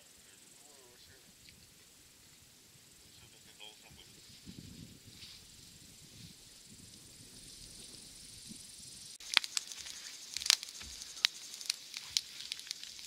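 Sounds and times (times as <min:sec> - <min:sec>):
faint steady high hiss: 0:00.0 - 0:13.0
campfire crackling and popping: 0:01.3 - 0:13.0.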